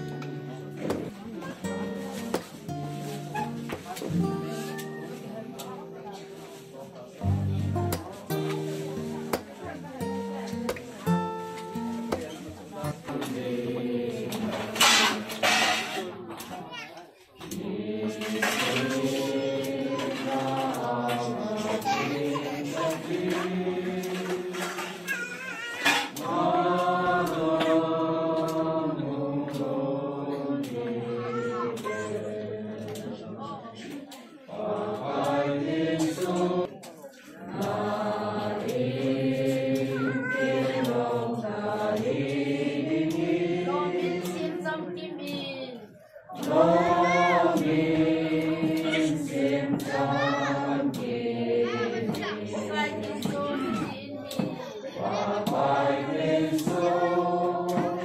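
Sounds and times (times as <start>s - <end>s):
group singing a hymn: 7.4s - 16.6s, 17.4s - 58.0s.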